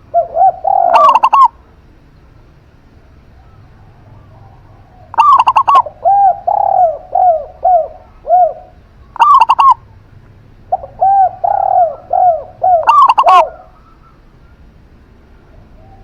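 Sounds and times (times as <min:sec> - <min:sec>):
quick high dove cooing: 0:00.0 - 0:01.6, 0:03.4 - 0:10.0, 0:10.7 - 0:14.7, 0:15.3 - 0:16.0
slow low dove cooing: 0:00.0 - 0:01.7, 0:03.0 - 0:14.7, 0:15.3 - 0:16.0.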